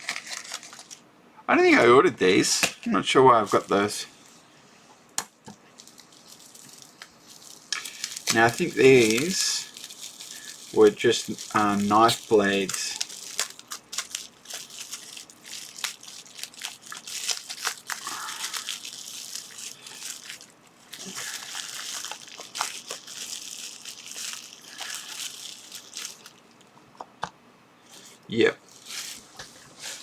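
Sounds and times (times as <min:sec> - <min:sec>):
packaging crinkling and rustling: 0:00.0 - 0:01.0, 0:05.7 - 0:26.7, 0:27.9 - 0:30.0.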